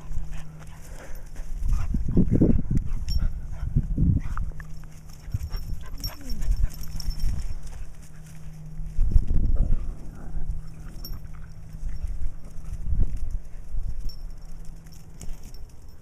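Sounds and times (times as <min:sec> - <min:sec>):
dogs play-fighting: 0:00.0 - 0:08.9, 0:09.6 - 0:15.9
paws scuffling: 0:00.0 - 0:16.0.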